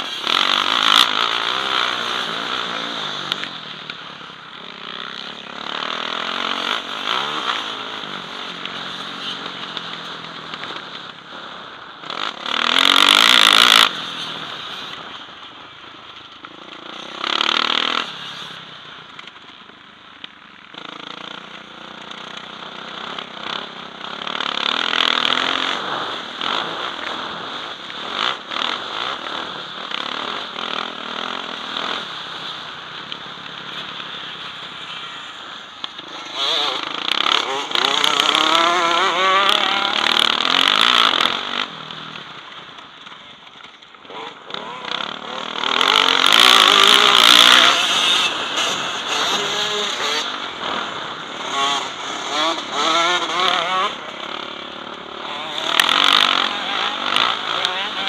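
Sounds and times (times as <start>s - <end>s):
motorcycle engine revving: 0.0s - 15.6s, 16.2s - 19.5s, 20.6s - 58.0s.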